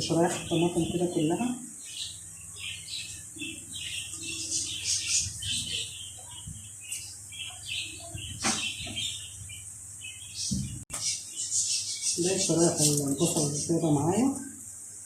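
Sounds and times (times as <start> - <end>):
bird chirping: 0.0 - 14.4.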